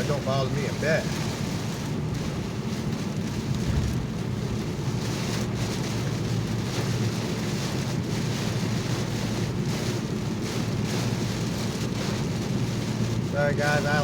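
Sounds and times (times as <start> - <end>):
heavy rain on a car: 0.0 - 14.0
tyres on wet road: 0.0 - 14.0.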